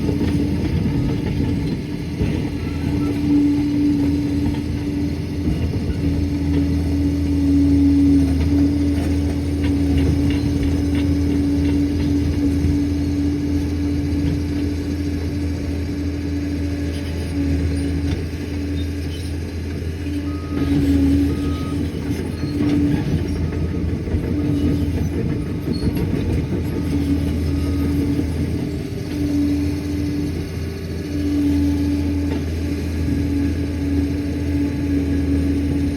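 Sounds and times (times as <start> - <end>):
dozer diesel engine running: 0.0 - 35.9.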